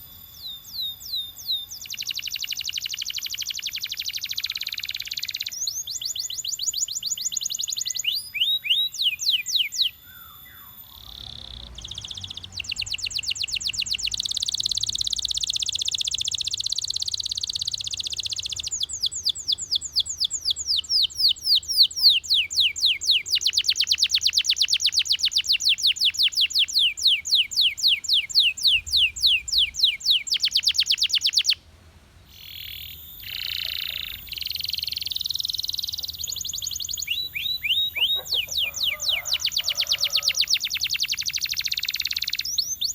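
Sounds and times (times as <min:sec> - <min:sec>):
canary singing trills: 0:00.0 - 0:31.6, 0:32.3 - 0:42.9.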